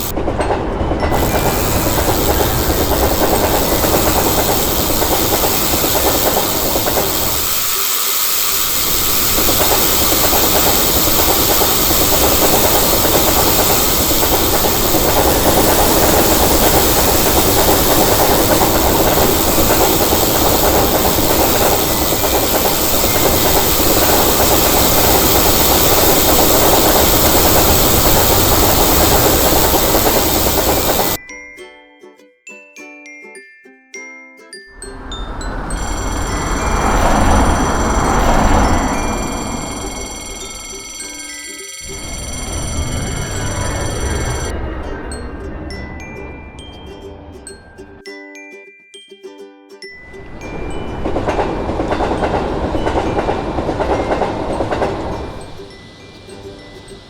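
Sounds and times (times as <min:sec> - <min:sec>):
rail noise with hiss: 0:00.0 - 0:31.2, 0:34.8 - 0:48.0, 0:50.0 - 0:57.0
train passing: 0:00.0 - 0:31.2, 0:34.7 - 0:48.0, 0:49.9 - 0:57.0.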